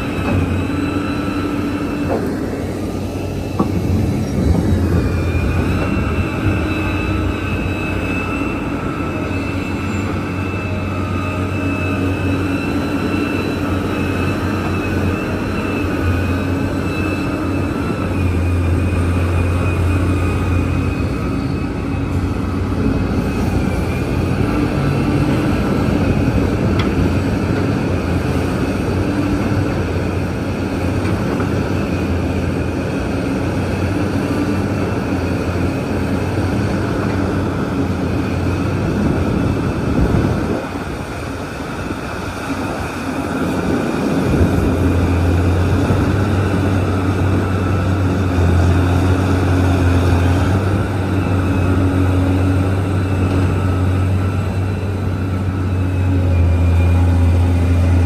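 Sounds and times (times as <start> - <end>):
excavator engine humming: 0.0 - 58.0.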